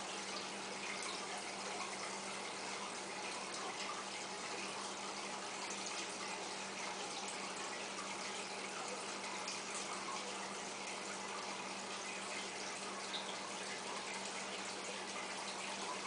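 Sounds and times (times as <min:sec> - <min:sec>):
aquarium water trickling and bubbling: 0:00.0 - 0:16.0.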